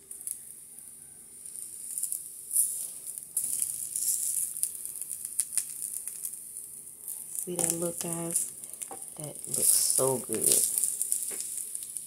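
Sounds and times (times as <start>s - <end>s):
steak sizzling on griddle: 1.4s - 12.0s
metal utensil on griddle: 1.5s - 6.4s, 7.1s - 12.0s.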